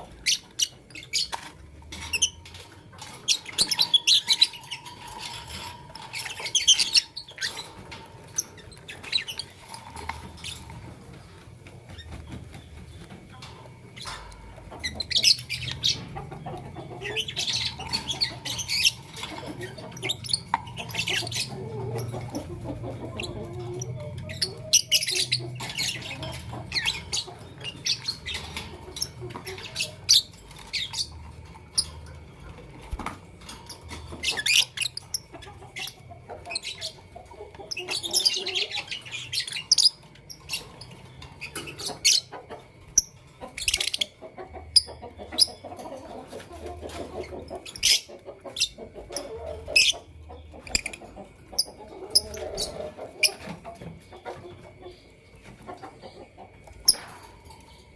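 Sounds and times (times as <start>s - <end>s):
lovebirds chirping: 0.0s - 57.9s.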